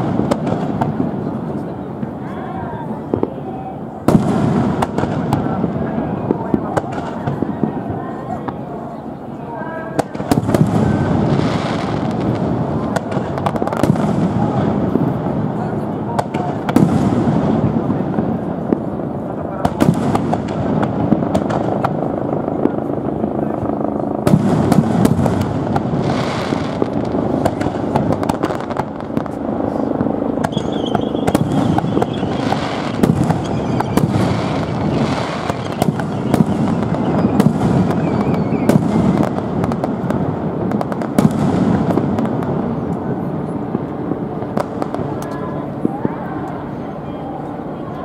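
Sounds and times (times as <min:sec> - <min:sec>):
firework bangs and cracks: 0:00.0 - 0:09.0, 0:09.9 - 0:46.2.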